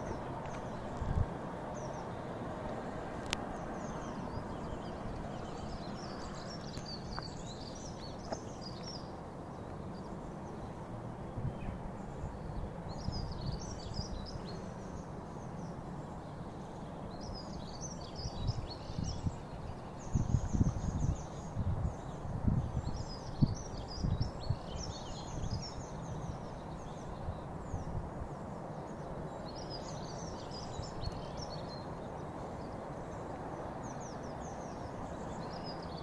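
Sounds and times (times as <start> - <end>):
outdoor background noise: 0.0 - 36.0
small birds chirping: 0.0 - 36.0.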